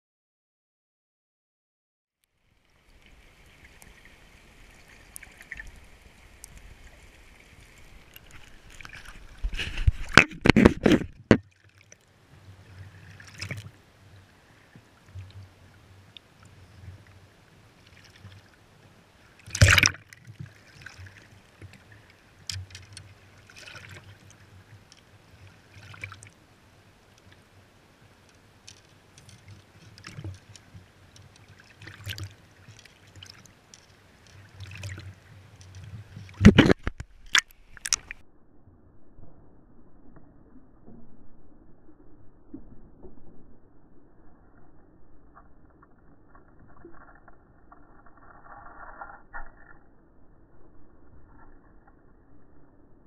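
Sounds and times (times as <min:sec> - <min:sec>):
river water trickling over rocks: 0:02.3 - 0:38.2, 0:40.2 - 0:52.6.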